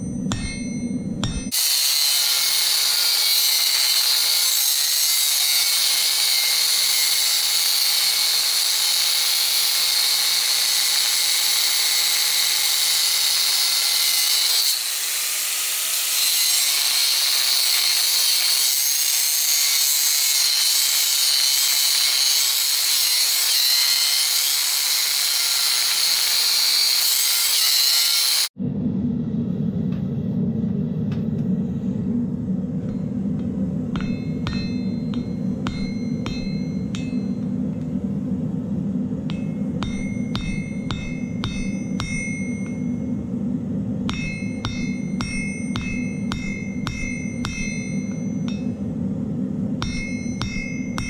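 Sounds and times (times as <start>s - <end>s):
angle grinder grinding steel: 0.0s - 28.5s, 33.9s - 37.5s, 39.3s - 43.0s, 44.1s - 48.8s, 49.8s - 51.0s.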